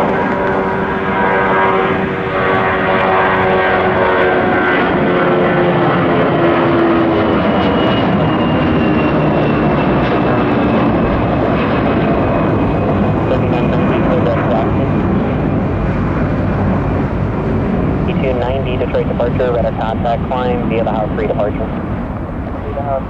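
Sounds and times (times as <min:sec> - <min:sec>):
jet engines at takeoff: 0:00.0 - 0:23.0.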